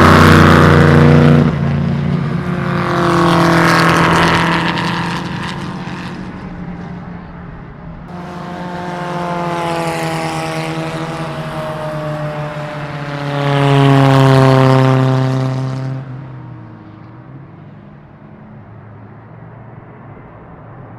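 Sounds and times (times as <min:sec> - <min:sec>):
race car engines passing: 0:00.0 - 0:20.9.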